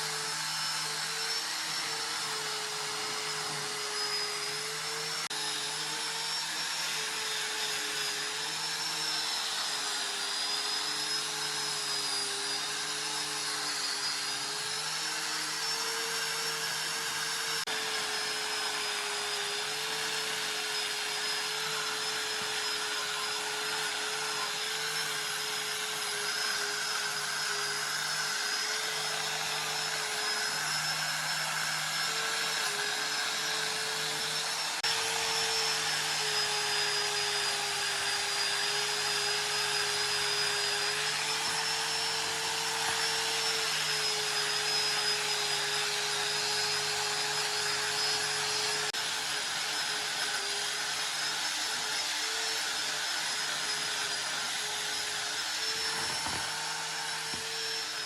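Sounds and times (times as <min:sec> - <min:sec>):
electric power tool motor running: 0:00.0 - 0:58.0.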